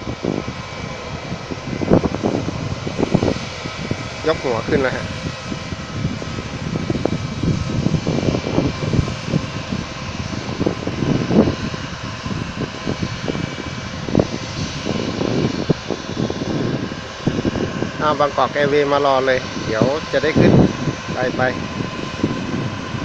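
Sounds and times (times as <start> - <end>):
jet engine roar with whine: 0.0 - 23.0.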